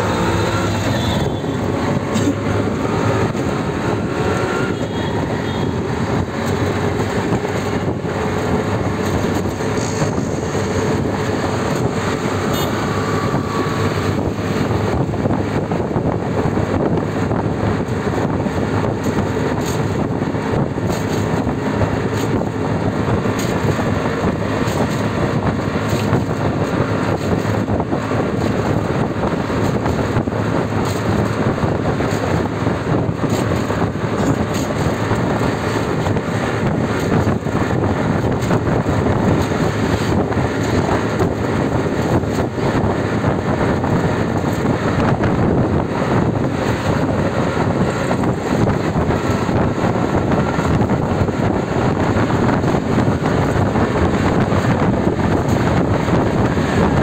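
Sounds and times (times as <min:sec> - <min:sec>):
vehicle engine and road noise: 0:00.0 - 0:57.0
wind buffeting microphone: 0:00.0 - 0:57.0.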